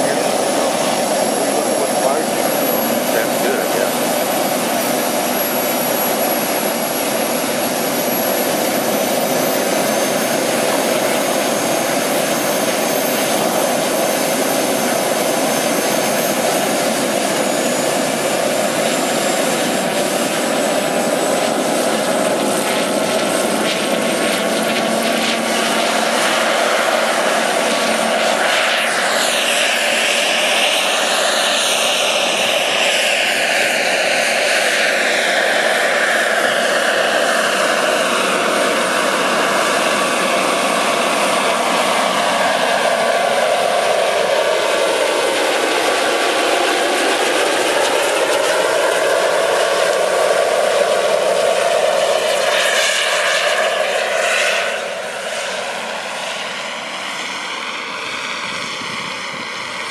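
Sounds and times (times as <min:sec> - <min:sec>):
model helicopter turbine whine: 0:00.0 - 0:59.9.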